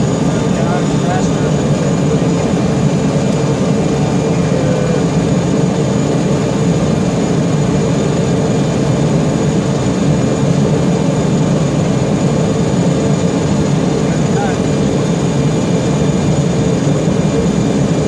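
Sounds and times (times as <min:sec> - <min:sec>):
aircraft engine running: 0:00.0 - 0:18.0.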